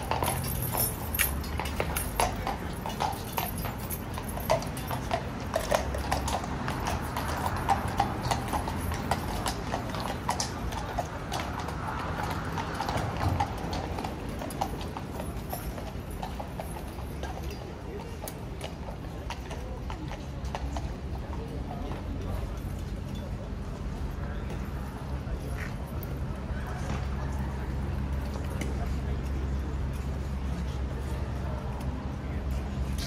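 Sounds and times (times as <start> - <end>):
horse hooves clip-clopping: 0.0 - 33.0.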